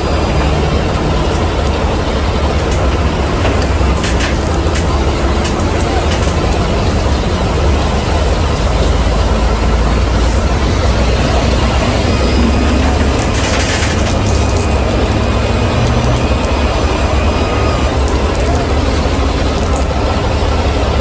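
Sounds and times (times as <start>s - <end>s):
heavy truck rumbling: 0.0s - 21.0s.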